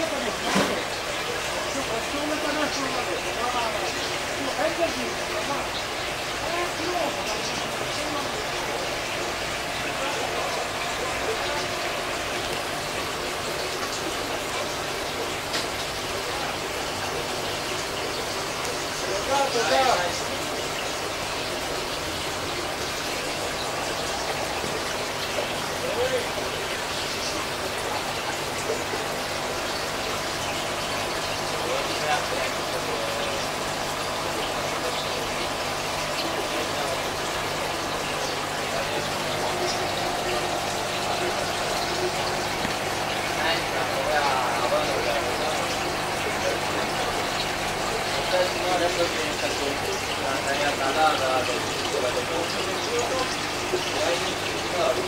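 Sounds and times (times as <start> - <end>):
aquarium air bubbling: 0.0 - 55.0
low pump hum: 0.0 - 55.0.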